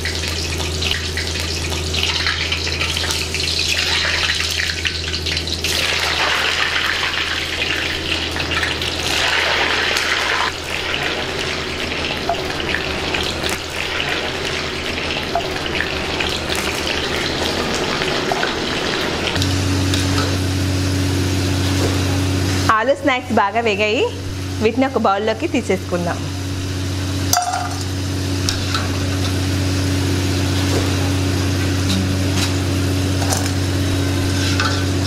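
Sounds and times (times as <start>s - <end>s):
low steady hum: 0.0s - 35.0s
oil bubbling and sizzling: 0.0s - 35.0s.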